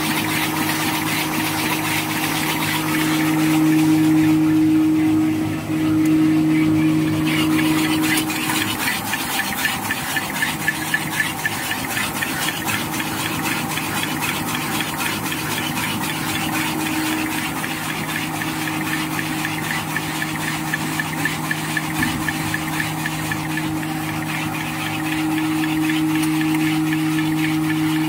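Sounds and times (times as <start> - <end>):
fast mechanical clatter: 0.0 - 4.4, 7.3 - 28.0
folding machine humming: 0.0 - 28.0.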